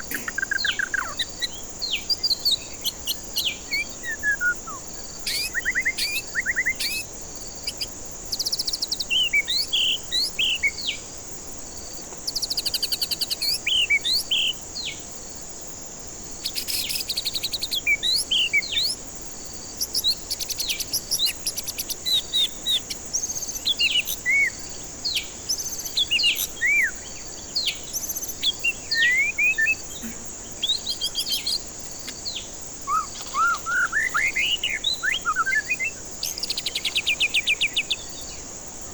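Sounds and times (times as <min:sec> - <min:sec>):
bird singing whistled notes: 0:00.0 - 0:11.0, 0:12.3 - 0:15.0, 0:16.4 - 0:19.0, 0:19.8 - 0:38.4
steady high hiss: 0:00.0 - 0:38.9.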